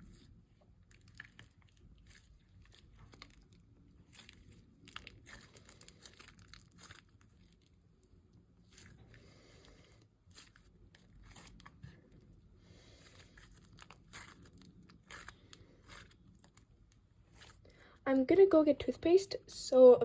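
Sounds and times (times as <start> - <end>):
slime crackling as kneaded by hand: 0.0 - 17.6.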